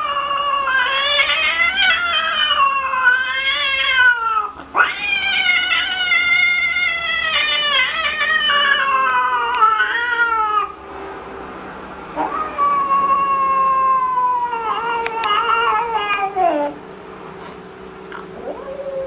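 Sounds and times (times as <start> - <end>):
cat yowling: 0.0 - 10.8, 12.2 - 16.8, 18.4 - 19.0.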